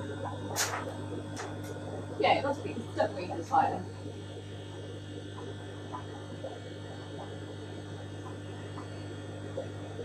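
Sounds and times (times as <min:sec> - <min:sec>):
aquarium equipment humming: 0:00.0 - 0:10.0
faint small sounds: 0:00.0 - 0:10.0.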